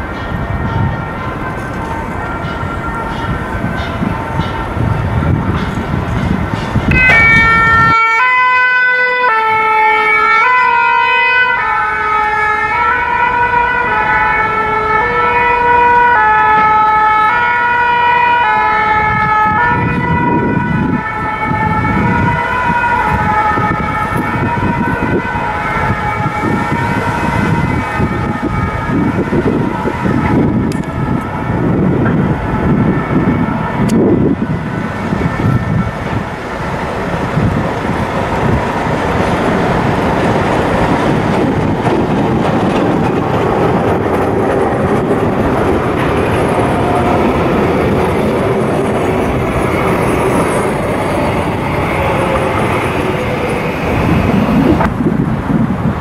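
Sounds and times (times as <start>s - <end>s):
two-tone emergency siren: 0.0s - 5.7s, 6.8s - 39.4s, 45.7s - 55.2s
street and tram traffic rumble: 0.0s - 56.0s.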